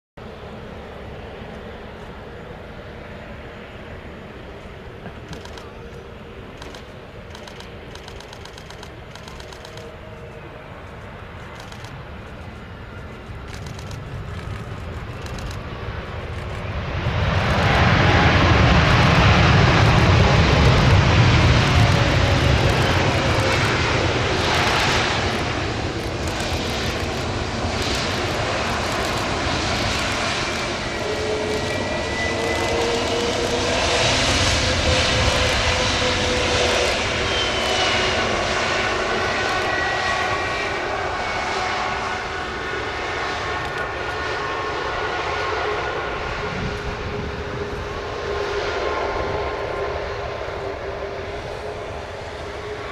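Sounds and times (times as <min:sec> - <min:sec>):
jet engines roaring: 0:00.2 - 0:52.9
whining engine tones: 0:00.8 - 0:52.9.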